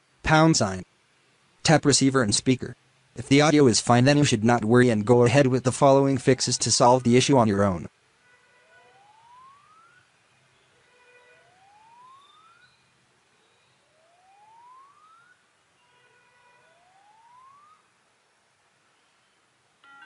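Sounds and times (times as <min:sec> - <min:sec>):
faint steady electronic tones: 0:00.0 - 0:20.0.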